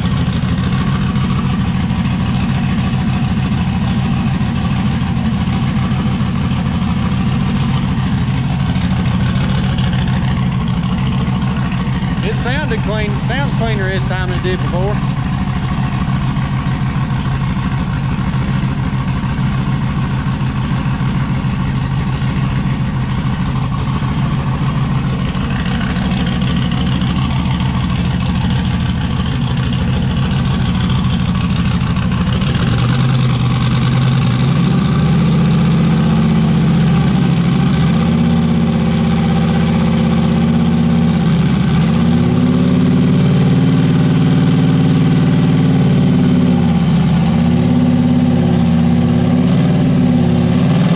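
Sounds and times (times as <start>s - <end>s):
pickup engine idling: 0.0s - 50.9s.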